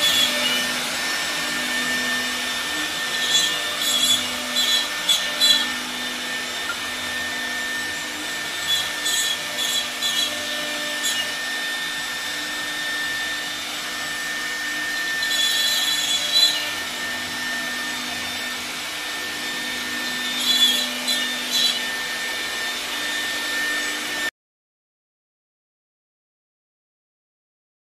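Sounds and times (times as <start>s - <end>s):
bit rasping into wood: 0.0s - 24.3s
router spindle high whine: 0.0s - 24.3s.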